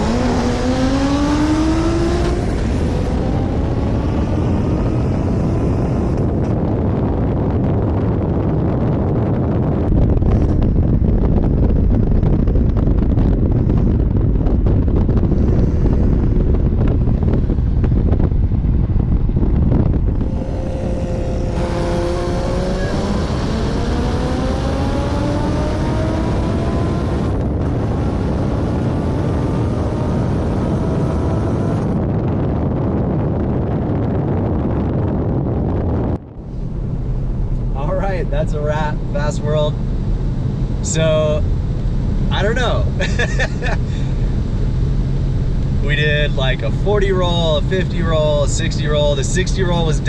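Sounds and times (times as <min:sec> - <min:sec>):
car engine accelerating: 0:00.0 - 0:50.0
wind buffeting: 0:00.0 - 0:50.0.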